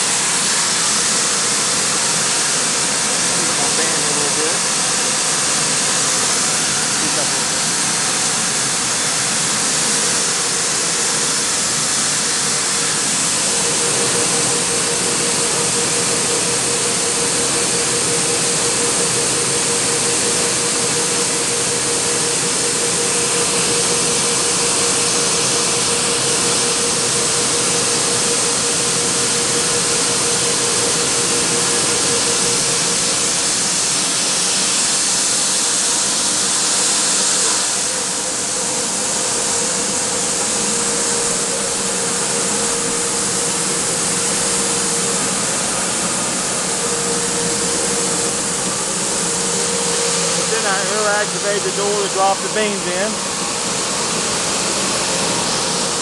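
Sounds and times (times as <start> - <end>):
coffee roaster roaring: 0.0 - 56.0
steady hum: 0.0 - 56.0.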